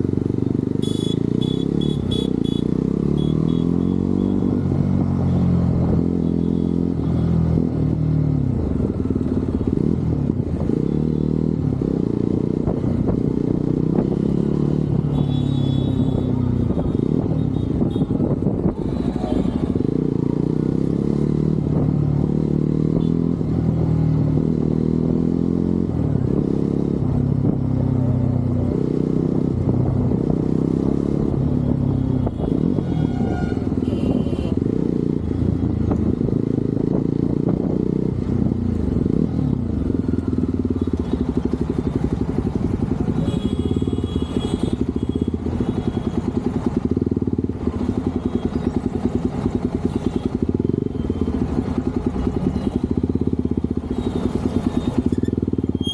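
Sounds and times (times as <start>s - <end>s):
motorcycle engine and exhaust: 0.0s - 55.9s.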